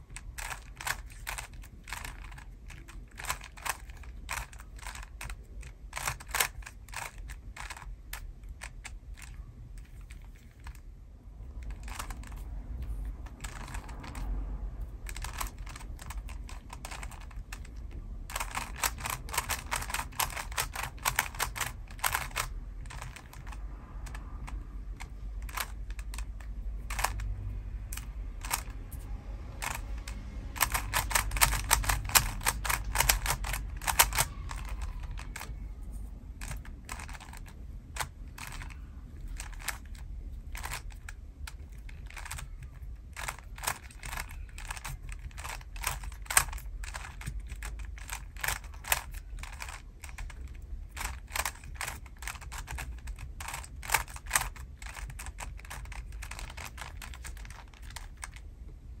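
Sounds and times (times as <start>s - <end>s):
puzzle cube clicking: 0.1s - 10.8s, 11.5s - 14.3s, 15.0s - 29.0s, 29.6s - 35.7s, 36.4s - 58.4s.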